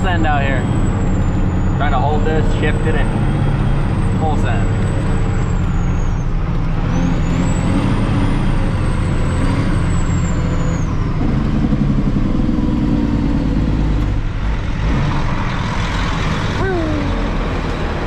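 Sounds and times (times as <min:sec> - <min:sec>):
truck engine at full throttle: 0:00.0 - 0:18.0.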